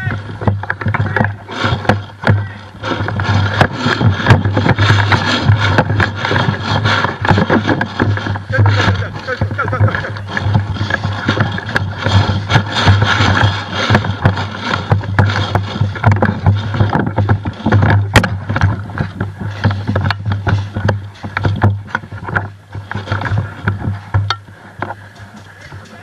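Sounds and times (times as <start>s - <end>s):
rustling with sharp clicks: 0.0s - 26.0s.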